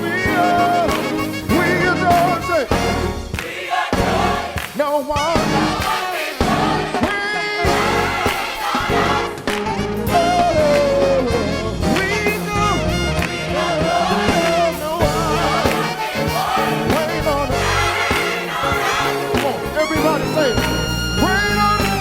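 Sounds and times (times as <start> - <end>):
choir singing with band: 0.0 - 22.0.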